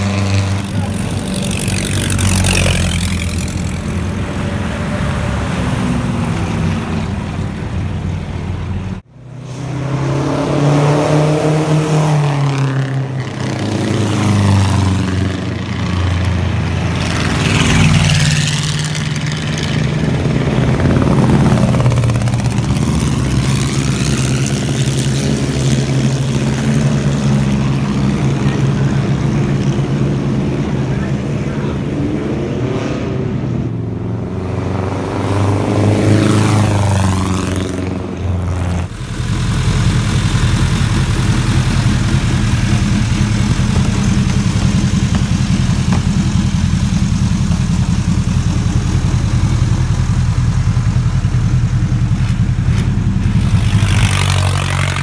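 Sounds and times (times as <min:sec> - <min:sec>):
racecars passing by: 0:00.0 - 0:55.0
racing engine running up close: 0:00.0 - 0:55.0.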